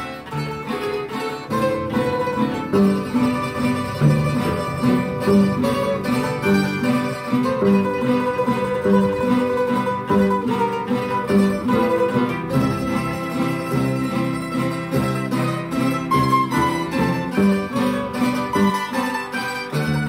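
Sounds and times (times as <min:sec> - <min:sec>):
string ensemble slow melody: 0:00.0 - 0:20.0.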